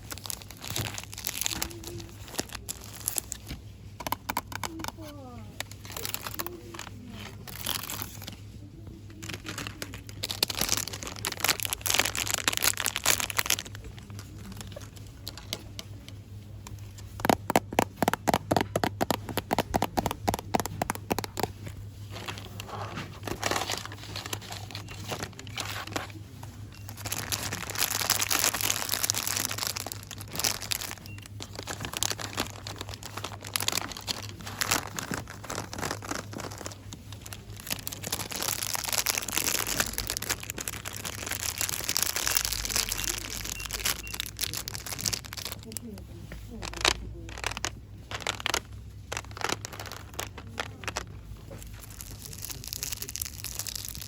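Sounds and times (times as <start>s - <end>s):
packaging crinkling: 0.0s - 54.0s
steady low hum: 0.0s - 54.0s.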